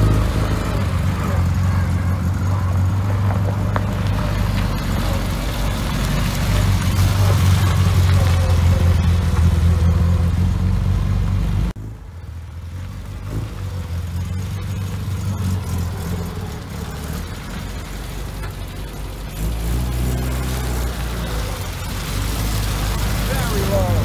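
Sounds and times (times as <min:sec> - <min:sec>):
van engine running: 0:00.0 - 0:24.0.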